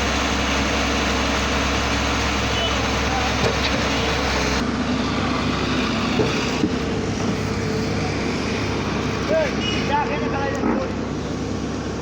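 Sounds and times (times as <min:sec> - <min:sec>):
drilling machine engine running: 0:00.0 - 0:12.0.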